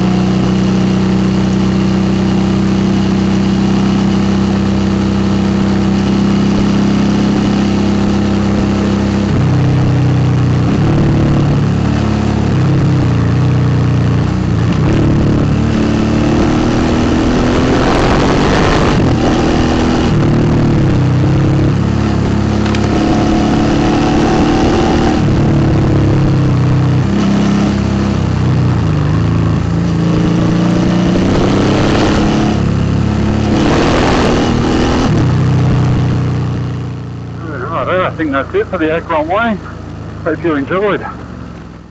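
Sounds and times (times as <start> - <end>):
motorcycle engine revving: 0.0 - 41.9
wind and road noise: 0.0 - 41.9.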